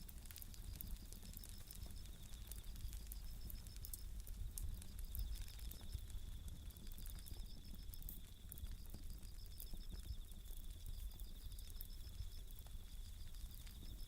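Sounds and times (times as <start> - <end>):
campfire crackling and popping: 0.0 - 14.0
crickets trilling: 0.0 - 14.0.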